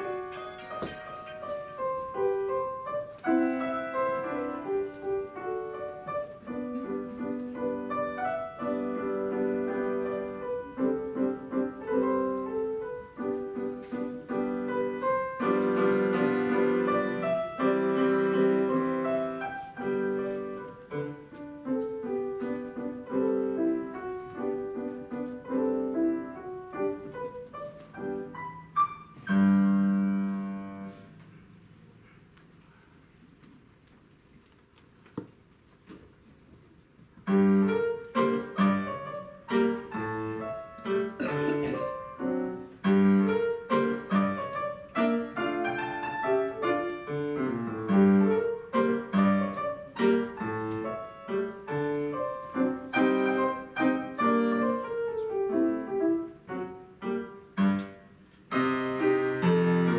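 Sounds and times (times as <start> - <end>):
solo classical piano piece: 0.0 - 34.3, 35.2 - 59.9.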